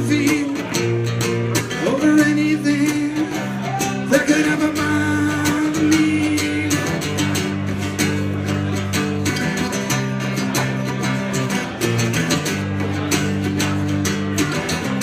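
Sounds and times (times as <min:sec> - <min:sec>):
guitar strumming: 0:00.0 - 0:15.0.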